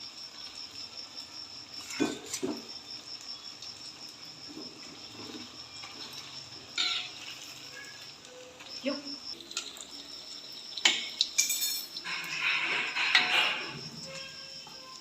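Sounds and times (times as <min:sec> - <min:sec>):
insect trilling: 0:00.1 - 0:15.0.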